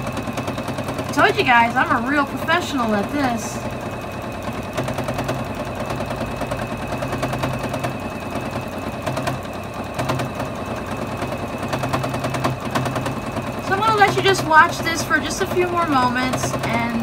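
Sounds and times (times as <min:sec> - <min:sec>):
sewing machine running: 0:00.0 - 0:17.0.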